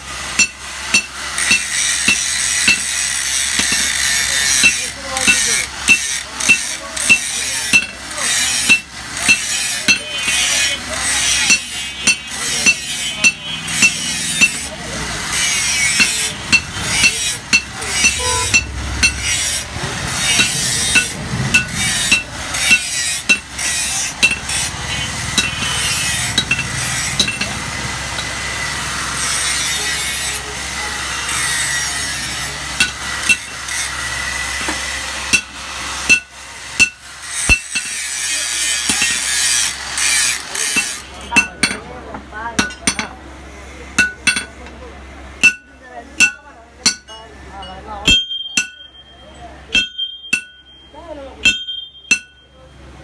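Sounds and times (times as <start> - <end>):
steady background noise: 0.0 - 53.0
hammer striking steel on anvil: 0.3 - 28.5, 31.3 - 42.0, 42.6 - 43.2, 44.0 - 44.8, 45.4 - 52.7.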